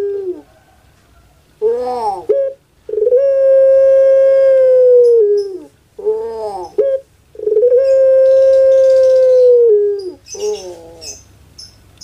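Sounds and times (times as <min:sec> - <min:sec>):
dove cooing: 0:00.0 - 0:00.8, 0:01.6 - 0:11.3.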